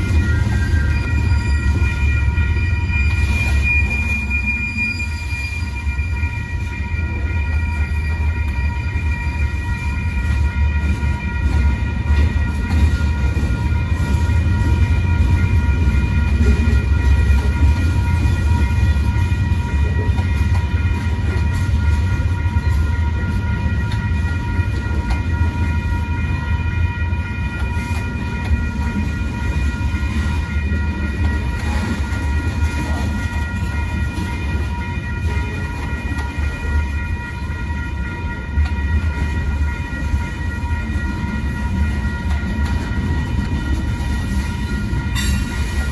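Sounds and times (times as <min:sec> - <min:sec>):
crossing bell ringing: 0:00.0 - 0:45.9
freight train cars rumbling: 0:00.0 - 0:45.9.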